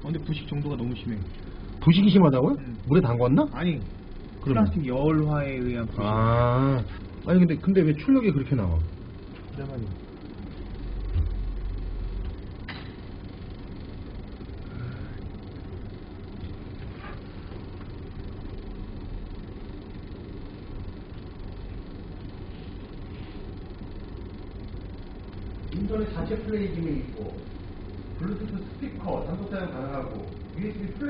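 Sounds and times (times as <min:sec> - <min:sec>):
low background rumble: 0:00.0 - 0:31.0.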